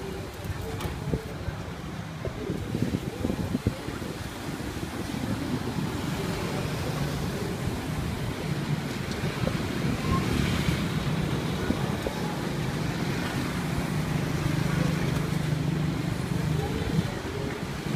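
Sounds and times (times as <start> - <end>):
street traffic engine hum: 0.0 - 17.9
wind buffeting microphone: 0.0 - 17.9.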